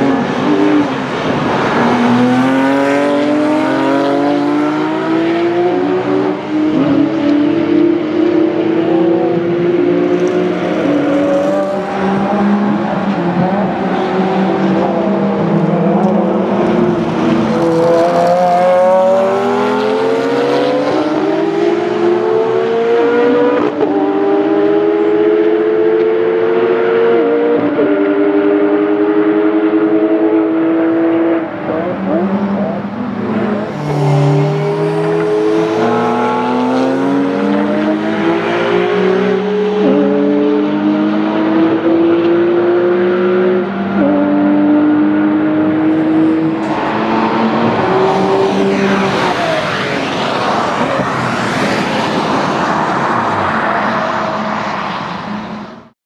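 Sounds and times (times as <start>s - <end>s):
racing engines accelerating through gears: 0.0s - 55.9s.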